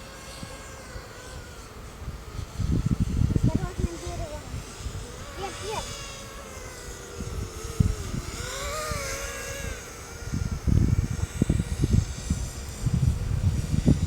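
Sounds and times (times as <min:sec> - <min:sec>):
quadcopter motors whining: 0:00.0 - 0:14.0
wind buffeting microphone: 0:02.0 - 0:14.0.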